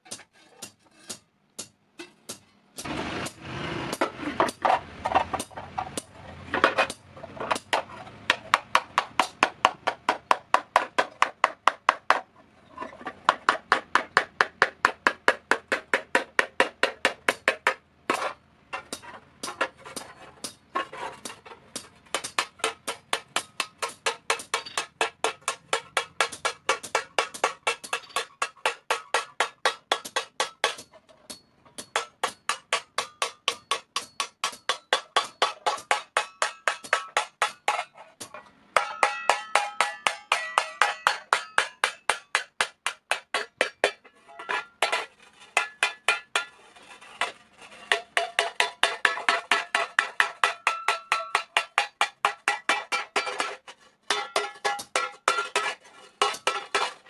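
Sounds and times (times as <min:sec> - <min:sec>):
hammer striking metal plate: 0:00.0 - 0:12.2, 0:13.3 - 0:20.6, 0:21.2 - 0:46.6, 0:47.2 - 0:57.0.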